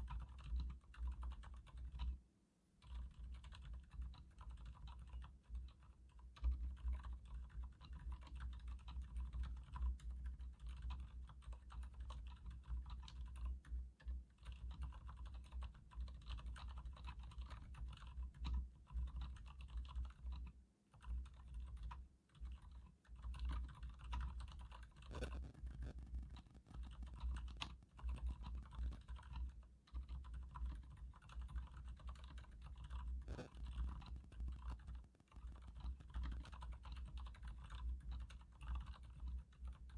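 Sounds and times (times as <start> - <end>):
muted mechanical keyboard typing: 0.0 - 2.2, 2.8 - 39.9.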